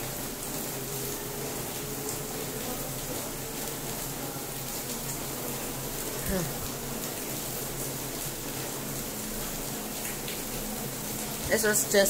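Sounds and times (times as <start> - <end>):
washing machine water rushing: 0.0 - 12.0.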